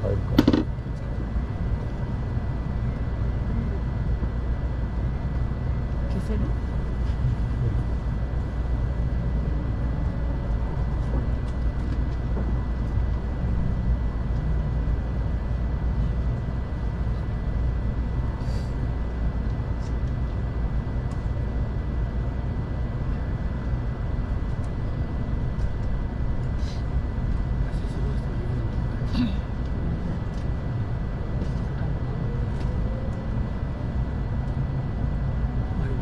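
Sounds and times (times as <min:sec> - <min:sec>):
train cabin rumble: 0:00.0 - 0:36.0.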